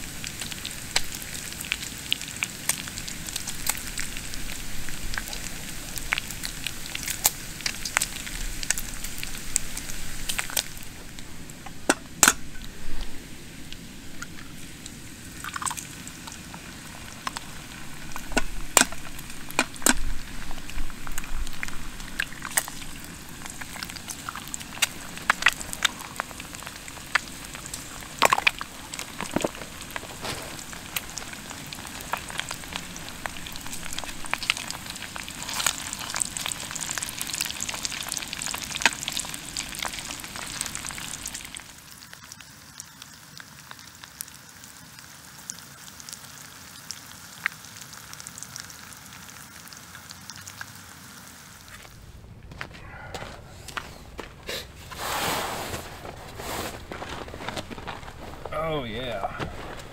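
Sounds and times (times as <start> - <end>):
food sizzling and popping in pan: 0.0 - 52.0.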